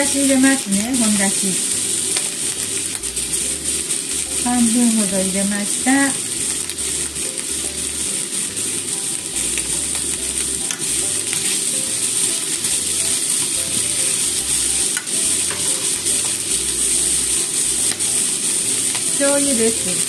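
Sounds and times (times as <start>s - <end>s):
chopsticks ticking against a pan: 0.0s - 20.0s
food sizzling in a frying pan: 0.0s - 20.0s.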